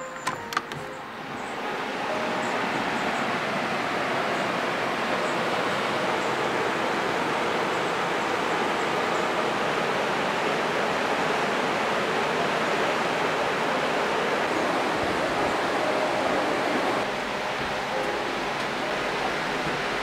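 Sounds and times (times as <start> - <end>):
stream rushing over rocks: 1.8 - 20.0.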